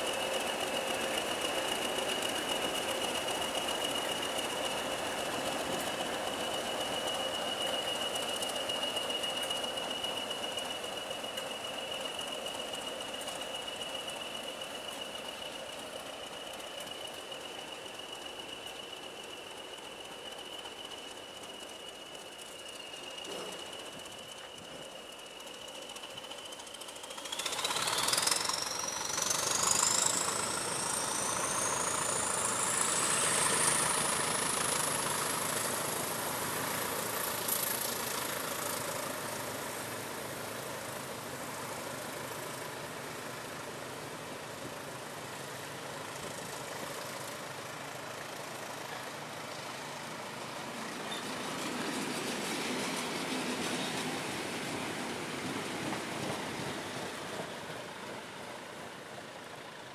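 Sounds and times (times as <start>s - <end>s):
diesel locomotive engine: 0.0s - 59.9s
train wheels rumbling on rail: 0.0s - 59.9s.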